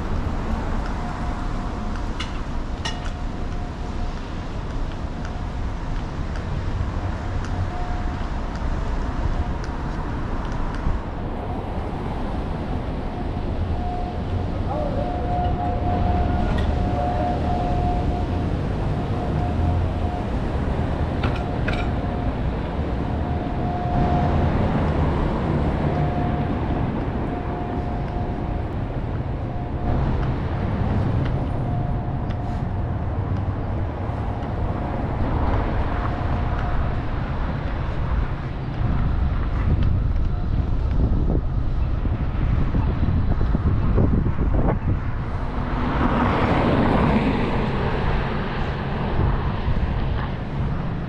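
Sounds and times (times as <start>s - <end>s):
traffic rumble: 0.0s - 51.0s.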